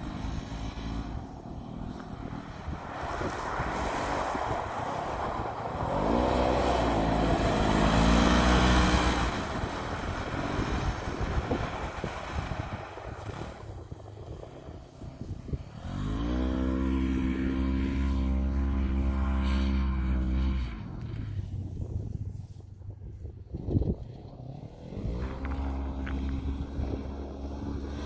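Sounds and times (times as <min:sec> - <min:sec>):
vehicle engine revving: 0:00.0 - 0:22.2, 0:23.5 - 0:28.0.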